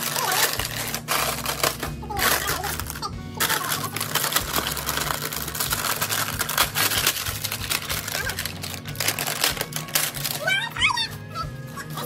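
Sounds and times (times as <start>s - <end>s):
plastic wrapper crackling: 0.0s - 11.1s.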